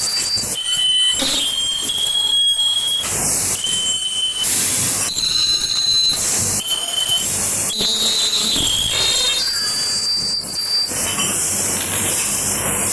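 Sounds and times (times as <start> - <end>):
welding machine high-pitched whine: 0.0 - 12.9.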